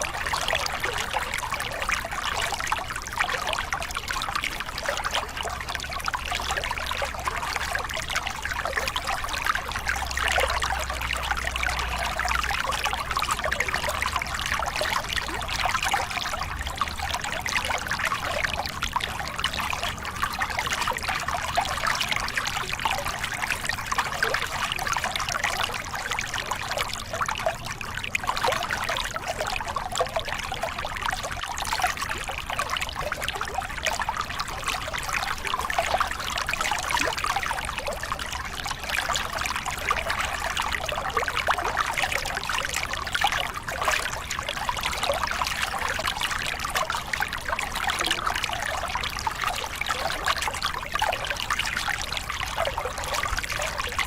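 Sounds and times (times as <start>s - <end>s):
water pouring over rocks: 0.0s - 54.0s.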